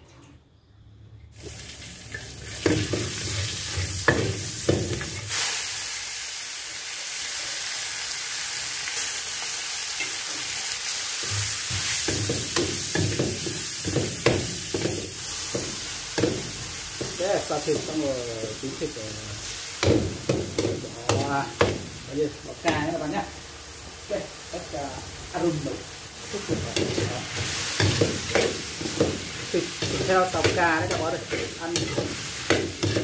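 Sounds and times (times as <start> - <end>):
meat sizzling in oil: 1.4 - 33.0.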